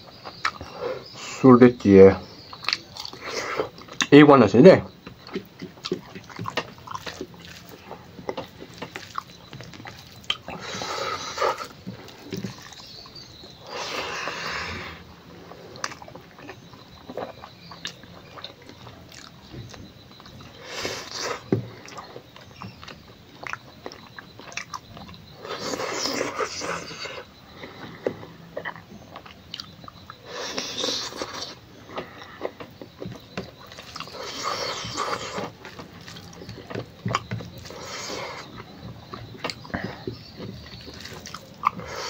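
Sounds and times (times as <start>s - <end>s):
wet chewing and lip-smacking: 0.0s - 1.2s, 2.4s - 4.1s, 4.9s - 14.4s, 15.1s - 42.0s.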